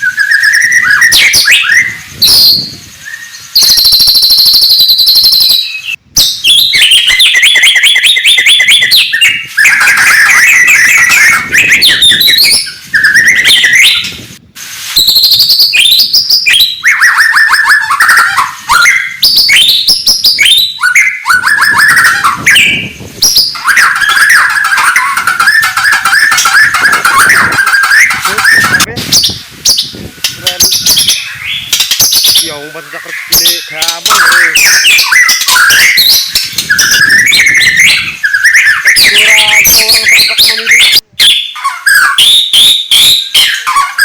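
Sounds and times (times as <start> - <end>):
bird singing whistled trills: 0.0 - 14.2, 15.0 - 44.0.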